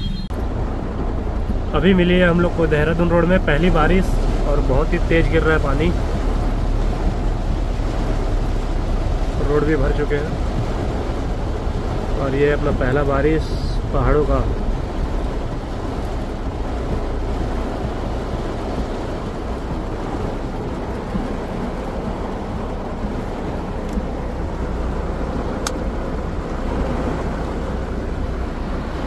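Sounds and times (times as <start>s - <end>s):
car engine rumble: 0.0s - 29.0s
heavy rain: 0.0s - 29.0s
wet tyres on road: 0.0s - 29.0s.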